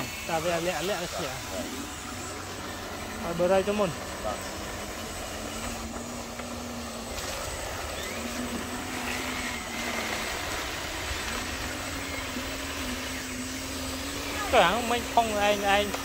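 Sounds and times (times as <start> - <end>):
small electric motor whirring: 0.0 - 16.0
steady hiss: 0.0 - 16.0.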